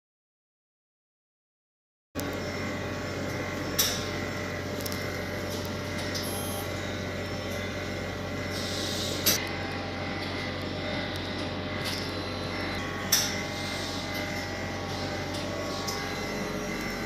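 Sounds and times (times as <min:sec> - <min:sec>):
laboratory machine hum and hiss: 0:02.2 - 0:17.0.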